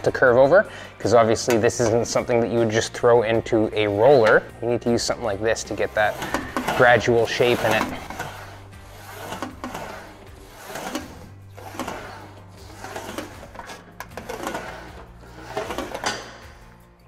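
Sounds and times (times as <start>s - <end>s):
sheet steel rolling through wheel: 1.0s - 16.8s.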